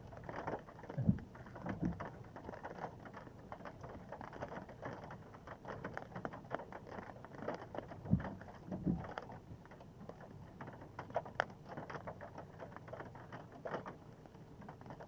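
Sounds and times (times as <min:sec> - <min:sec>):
rain drops pattering: 0:00.0 - 0:15.0.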